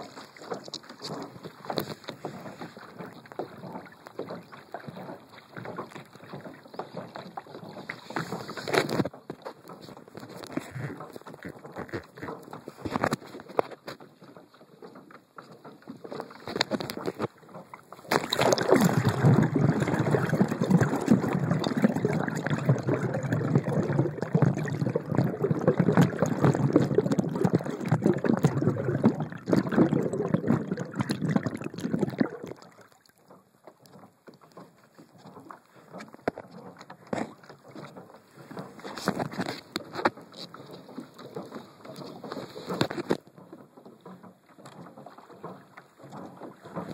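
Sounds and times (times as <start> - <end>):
muffled churning water: 0.0 - 46.9
water lapping: 0.0 - 46.9.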